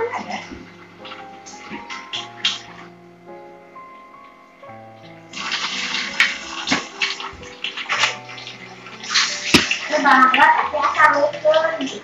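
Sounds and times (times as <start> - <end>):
water running and splashing: 0.0 - 2.9, 5.0 - 12.0
background music with held notes: 0.0 - 12.0.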